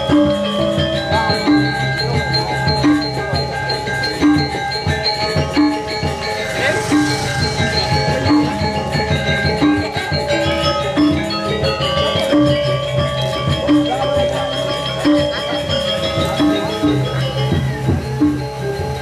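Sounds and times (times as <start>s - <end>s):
interlocking metallophone tones: 0.0s - 19.0s.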